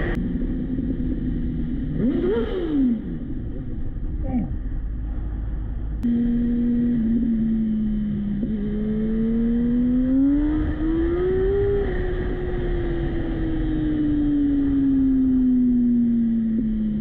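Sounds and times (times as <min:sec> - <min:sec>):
motorcycle engine revving: 0:00.0 - 0:04.0, 0:06.0 - 0:17.0.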